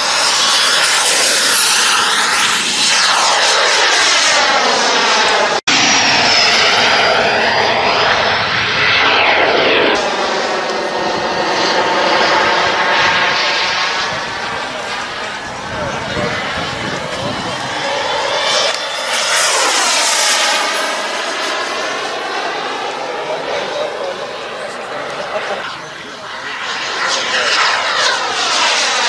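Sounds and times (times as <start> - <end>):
model jet turbine whine: 0.0 - 29.0.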